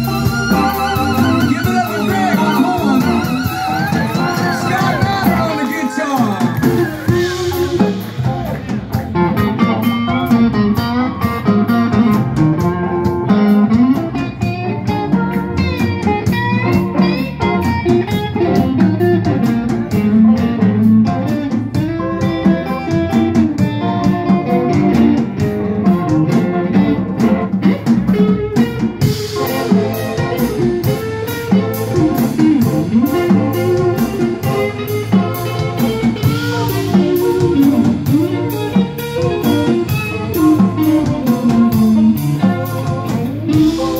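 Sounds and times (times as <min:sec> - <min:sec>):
bass and drums: 0:00.0 - 0:43.9
electric guitar: 0:00.0 - 0:43.9.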